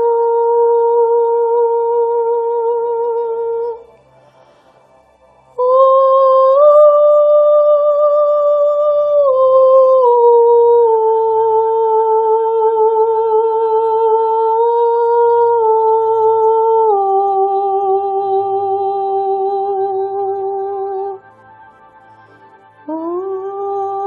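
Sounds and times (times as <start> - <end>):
woman singing held tone: 0.0 - 3.9, 5.6 - 21.3, 22.8 - 24.0
faint high sustained tones: 0.0 - 24.0.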